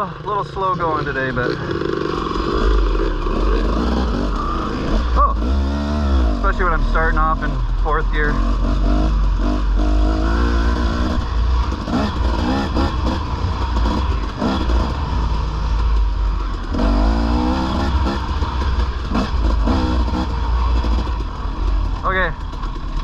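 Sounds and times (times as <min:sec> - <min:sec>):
dirt bike engine accelerating: 0:00.0 - 0:23.0.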